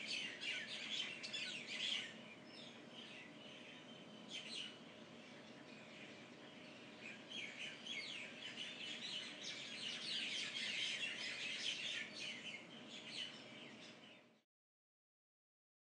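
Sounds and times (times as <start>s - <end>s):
many small birds chirping: 0.0s - 14.4s.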